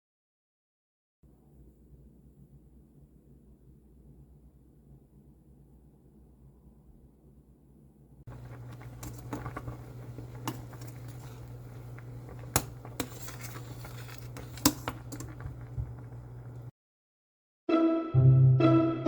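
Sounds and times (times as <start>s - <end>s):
steady low hum: 1.3s - 16.7s.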